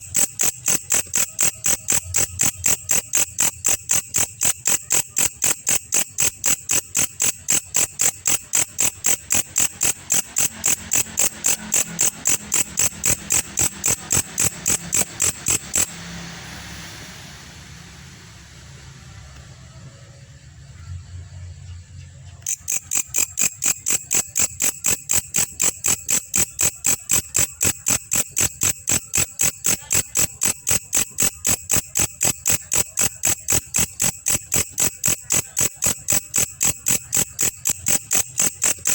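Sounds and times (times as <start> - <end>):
insect chirping: 0.0 - 38.9.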